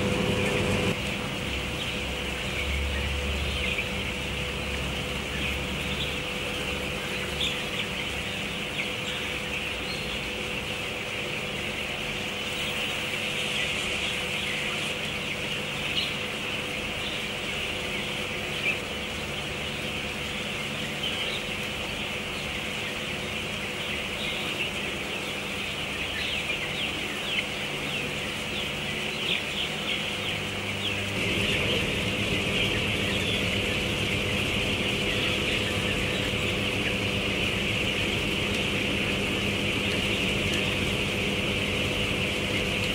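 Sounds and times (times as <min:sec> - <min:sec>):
chicks peeping: 0:00.0 - 0:42.9
steady mechanical hum: 0:00.0 - 0:42.9.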